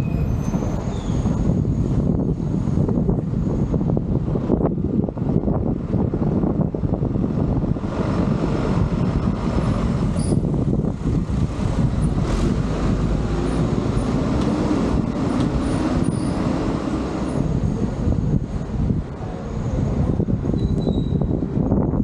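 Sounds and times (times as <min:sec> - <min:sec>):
low wind rumble: 0:00.0 - 0:22.0
motor vehicle noise: 0:00.0 - 0:22.0.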